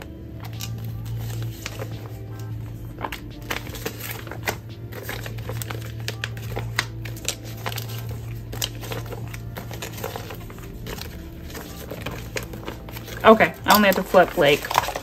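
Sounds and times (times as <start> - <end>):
plastic envelopes crinkling: 0.0 - 15.0.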